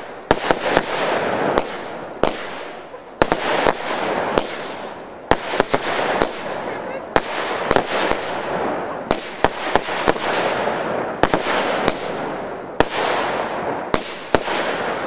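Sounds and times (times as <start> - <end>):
continuous hiss: 0.0 - 15.0
fireworks bangs: 0.0 - 15.0.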